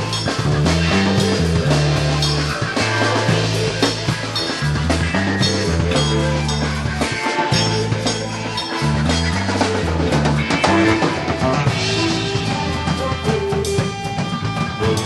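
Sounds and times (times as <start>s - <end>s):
bass line: 0.0s - 15.0s
drum kit beat: 0.0s - 15.0s
electric guitar: 0.0s - 15.0s.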